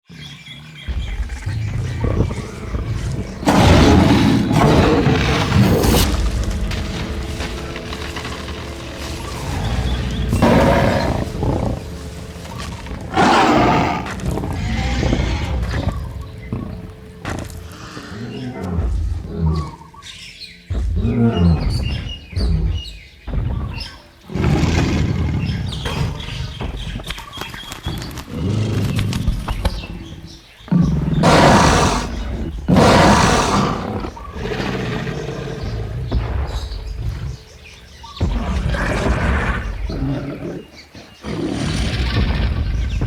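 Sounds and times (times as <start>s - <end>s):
creature growls and roars: 0.0s - 19.8s, 24.3s - 26.6s, 27.9s - 37.4s, 38.2s - 43.0s.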